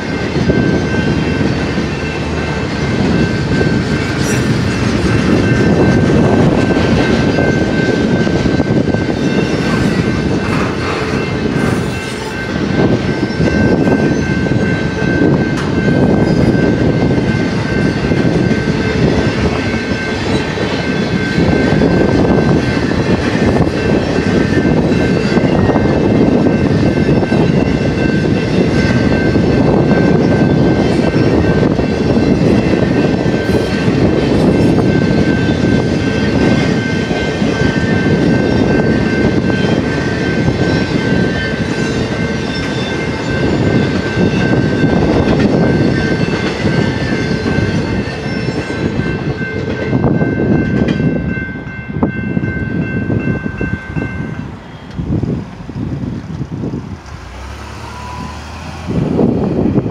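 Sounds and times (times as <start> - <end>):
crossing warning bell: 0.0 - 59.9
freight train wheels rumbling: 0.0 - 59.9.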